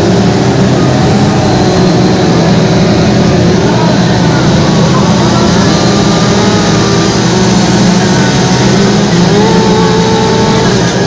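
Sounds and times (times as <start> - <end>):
chainsaws cutting wood: 0.0 - 11.0.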